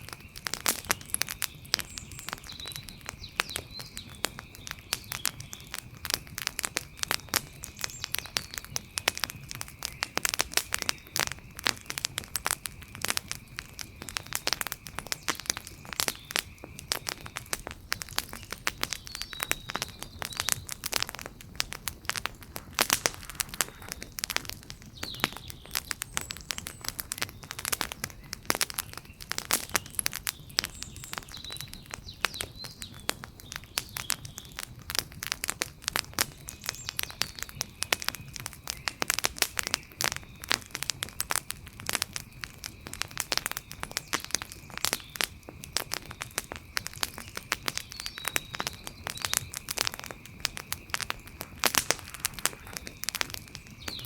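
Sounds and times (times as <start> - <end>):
faint chirps: 0.0 - 34.7, 41.4 - 54.0
wood fire crackling: 0.0 - 54.0.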